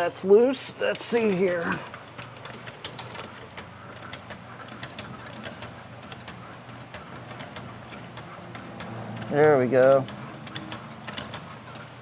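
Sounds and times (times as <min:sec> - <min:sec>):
steady low hum: 0:00.0 - 0:12.0
metallic clicking of bolt turning: 0:00.9 - 0:12.0.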